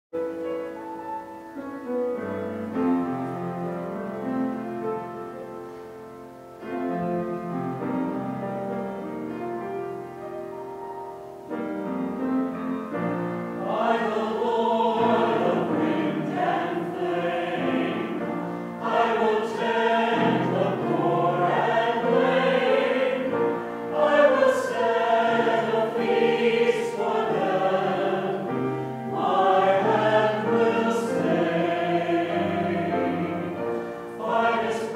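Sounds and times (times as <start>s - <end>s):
keyboard accompaniment: 0.2s - 34.9s
church choir singing: 0.5s - 6.0s, 6.6s - 10.5s, 11.4s - 34.9s.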